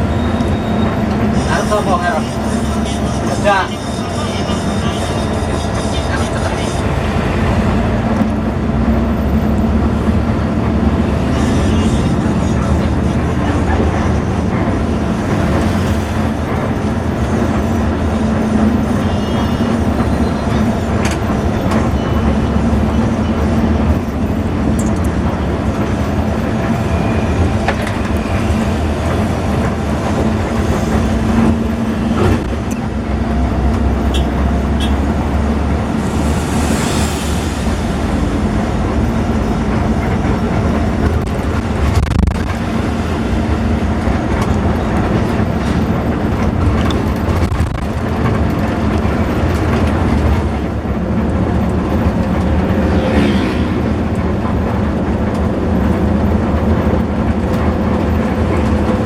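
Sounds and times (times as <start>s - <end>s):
bus engine hum: 0.0s - 59.0s
road rumble: 0.0s - 59.0s.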